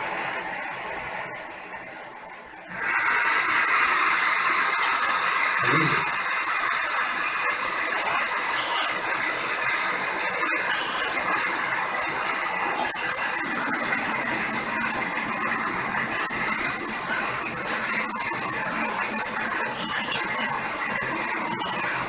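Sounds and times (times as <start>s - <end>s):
washing machine hissing: 0.0s - 22.0s.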